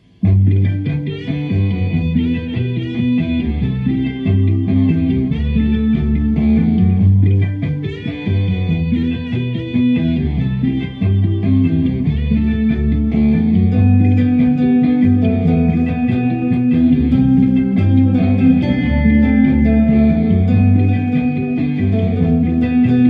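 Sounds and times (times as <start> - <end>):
electric guitar melody: 0.0 - 23.0
low bass notes: 0.0 - 23.0.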